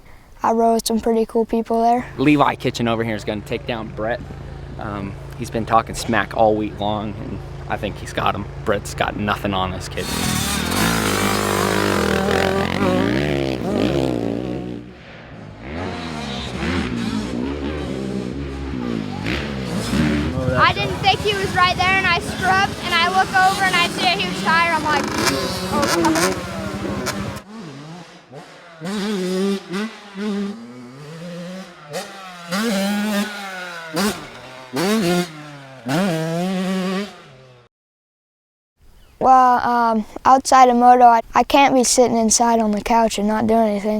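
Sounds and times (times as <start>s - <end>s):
motocross bike engines revving: 2.0s - 37.7s.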